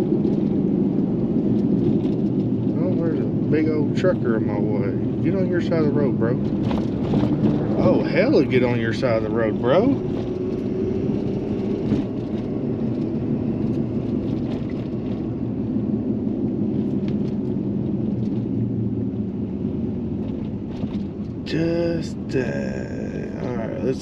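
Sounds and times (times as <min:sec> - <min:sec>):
road noise: 0:00.0 - 0:24.0
truck engine drone: 0:00.0 - 0:24.0.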